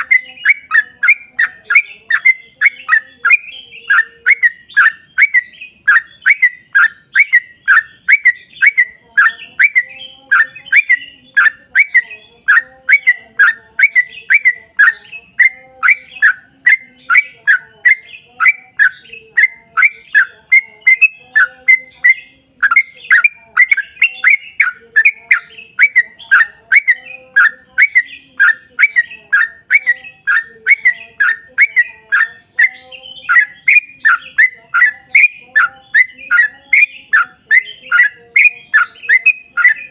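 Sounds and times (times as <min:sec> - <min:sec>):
bird singing repeated falling notes: 0:00.0 - 0:39.9.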